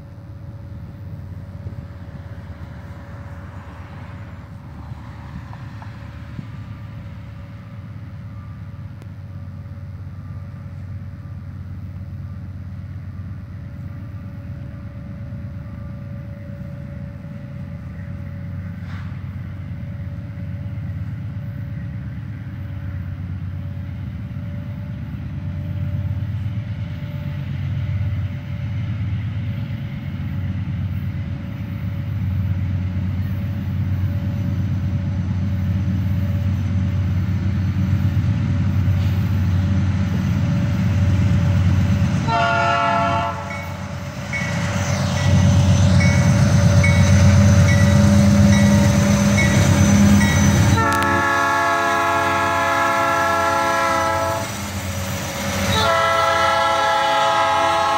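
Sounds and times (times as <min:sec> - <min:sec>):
distant freight train rumble: 0:00.0 - 0:57.9.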